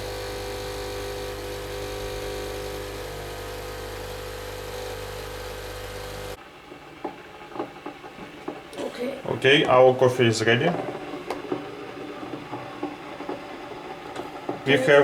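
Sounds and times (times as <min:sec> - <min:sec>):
coffee machine humming: 0:00.0 - 0:08.7, 0:09.4 - 0:15.0.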